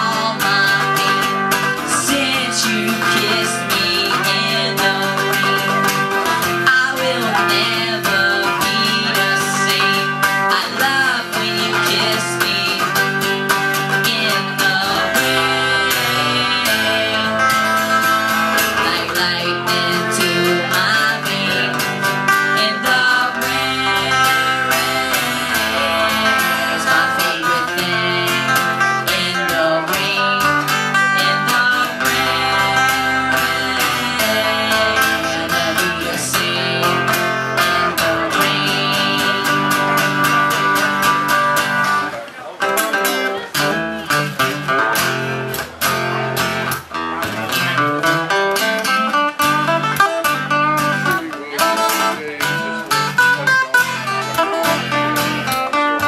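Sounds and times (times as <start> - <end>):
acoustic guitar strumming chords: 0.0 - 56.0
second guitar playing: 0.0 - 56.0.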